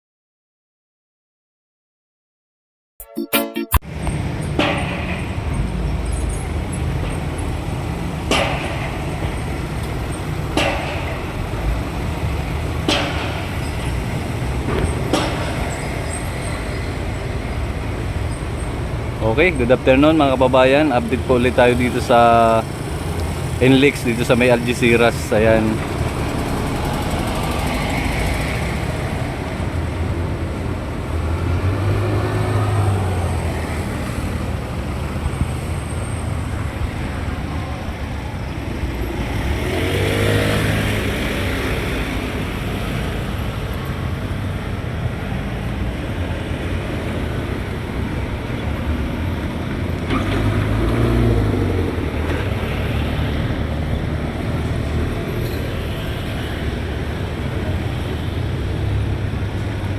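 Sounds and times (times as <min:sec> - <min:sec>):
road traffic rumble: 0:03.8 - 0:59.9
vehicles passing close by: 0:03.8 - 0:59.9.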